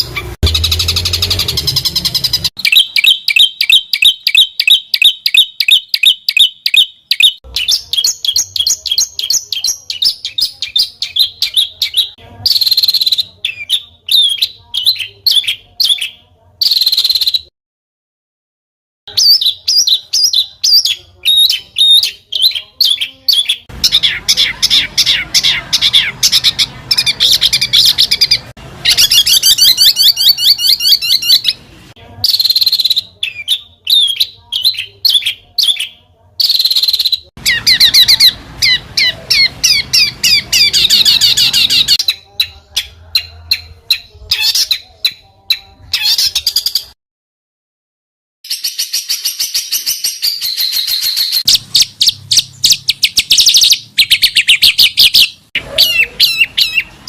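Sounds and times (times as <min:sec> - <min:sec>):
songbird singing chirps and trills: 0:00.0 - 0:17.5, 0:19.1 - 0:47.0, 0:48.5 - 0:57.0.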